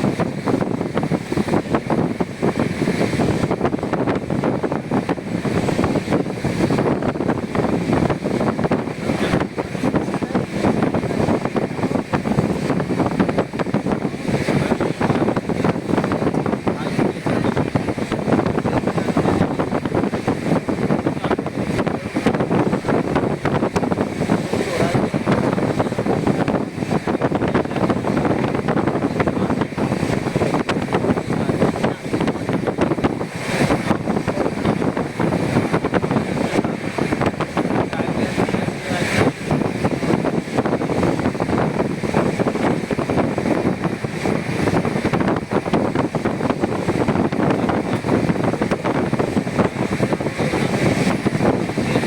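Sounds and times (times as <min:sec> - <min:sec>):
rush of wind from train: 0:00.0 - 0:52.0
train wheels rumbling on track: 0:00.0 - 0:52.0.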